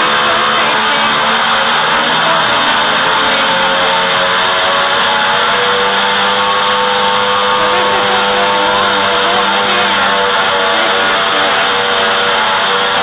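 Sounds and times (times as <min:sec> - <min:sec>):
rock drilling rig with whining tones: 0:00.0 - 0:13.0.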